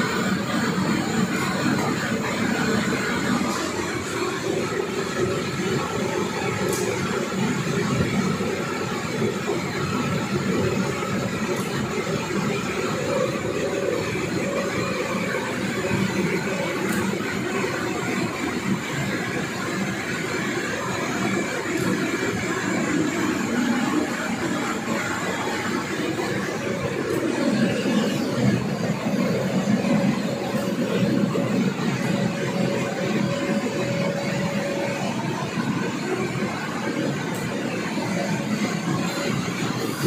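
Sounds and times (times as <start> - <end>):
production line mechanical noise: 0.0 - 40.0.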